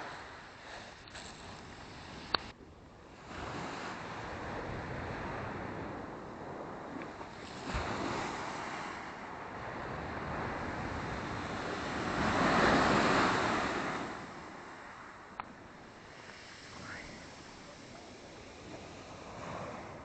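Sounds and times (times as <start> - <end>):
waves breaking on shore: 0.0 - 20.0
wind on microphone: 0.0 - 20.0.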